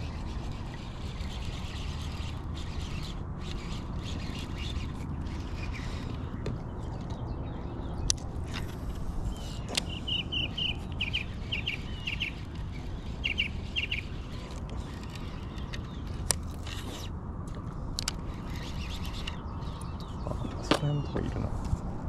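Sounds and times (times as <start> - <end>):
small birds chirping: 0.0 - 17.2, 18.0 - 21.6.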